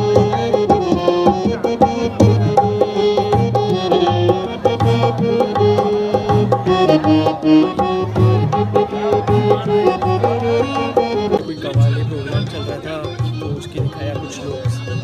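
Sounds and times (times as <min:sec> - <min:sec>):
music with drum beat: 0:00.0 - 0:15.0.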